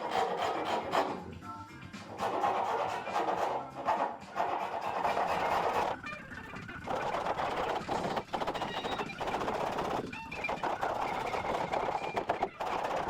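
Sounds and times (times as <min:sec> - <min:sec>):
hand rasp filing wood: 0:00.0 - 0:01.2, 0:02.1 - 0:06.0, 0:06.9 - 0:13.0.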